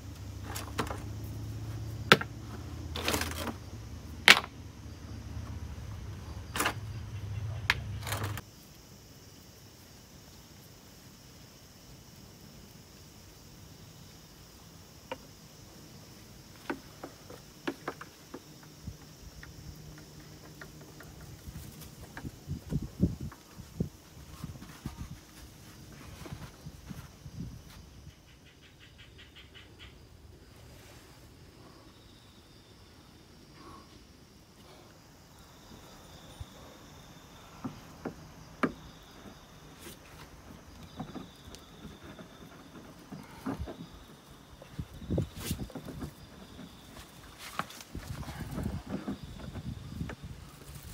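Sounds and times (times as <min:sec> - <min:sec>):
high insect trill: 0:00.0 - 0:50.9.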